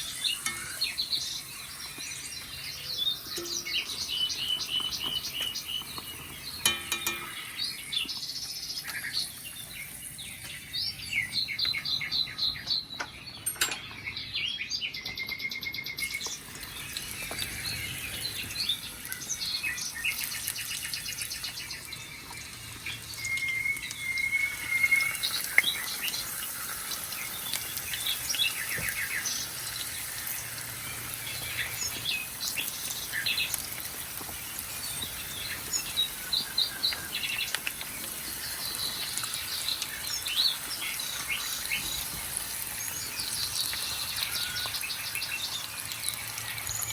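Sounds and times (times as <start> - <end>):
birds chirping and singing: 0.0 - 46.9.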